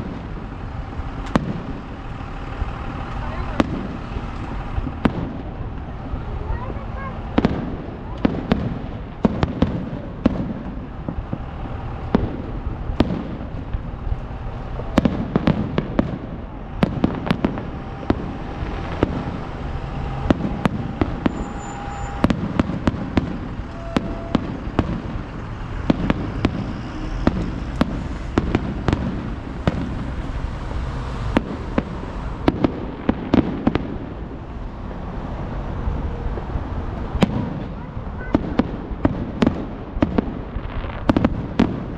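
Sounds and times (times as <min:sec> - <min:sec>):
fireworks bangs and crackles: 0:00.0 - 0:41.9
low rumble of booms: 0:00.0 - 0:41.9.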